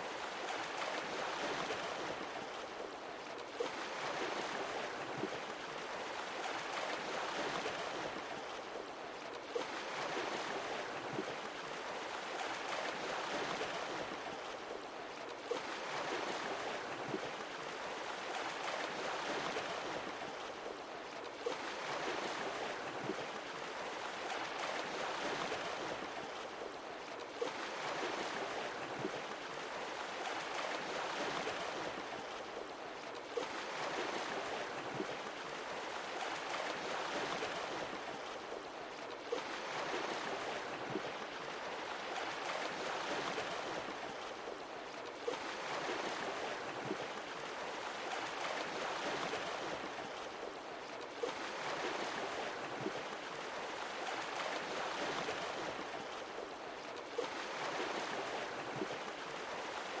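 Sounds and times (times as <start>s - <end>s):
sea waves washing in and out: 0.0s - 8.9s, 9.5s - 60.0s.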